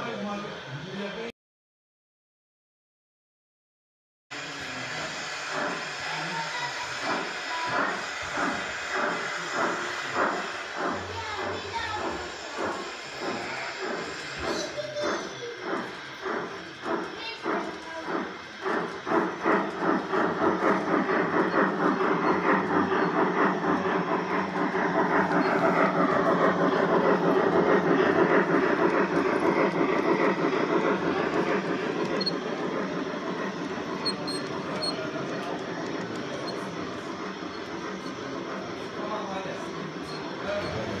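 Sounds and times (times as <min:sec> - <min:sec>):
model steam locomotive chuffing: 0:00.0 - 0:01.3, 0:04.3 - 0:41.0
wheels and wagons on track: 0:04.4 - 0:41.0.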